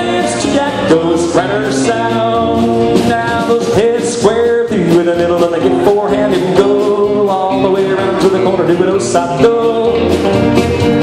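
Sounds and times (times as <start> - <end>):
country band playing: 0.0 - 11.0.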